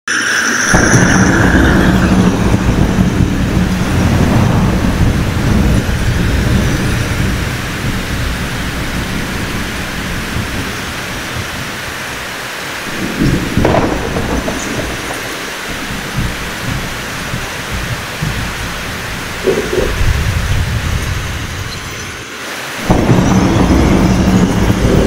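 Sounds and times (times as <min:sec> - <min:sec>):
rain hissing: 0:00.1 - 0:25.0
thunder rolling: 0:00.2 - 0:25.0.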